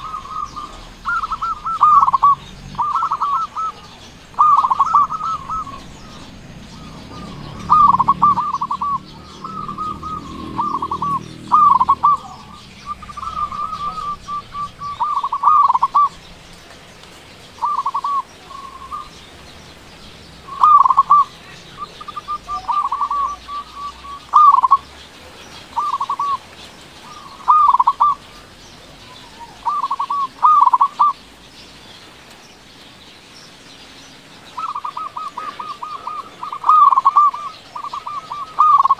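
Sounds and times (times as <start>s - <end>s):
dove cooing: 0.0s - 31.2s, 34.5s - 38.9s.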